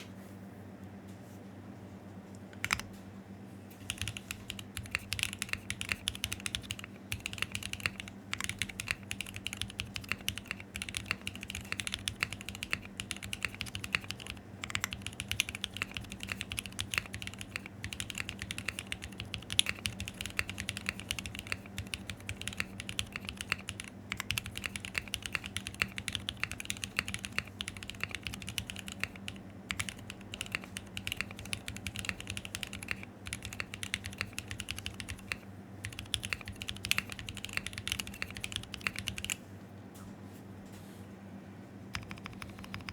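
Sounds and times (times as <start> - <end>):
fast typing on mechanical keyboard: 2.6 - 2.9, 3.8 - 39.4, 41.9 - 42.9.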